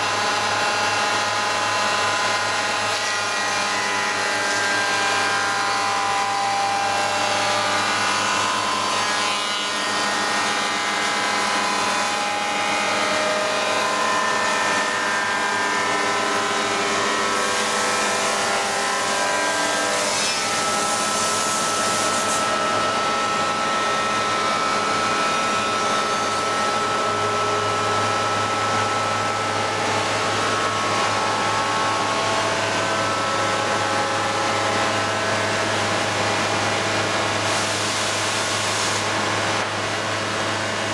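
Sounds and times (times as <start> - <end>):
woodworking machine humming: 0.0 - 40.9.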